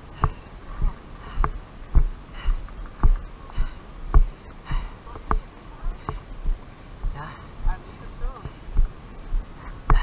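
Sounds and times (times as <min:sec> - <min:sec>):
footsteps walking: 0:00.0 - 0:10.0.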